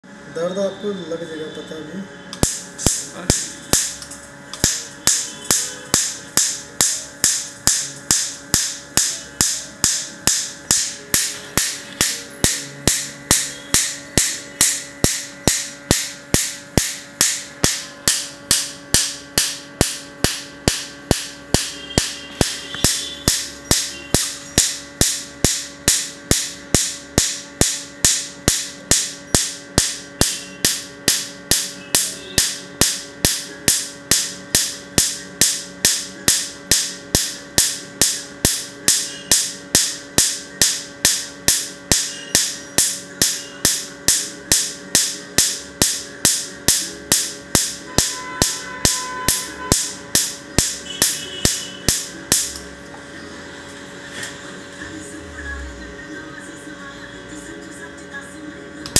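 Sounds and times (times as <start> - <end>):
steady machine hum: 0.0 - 58.9
laser pulse snaps: 2.3 - 52.7.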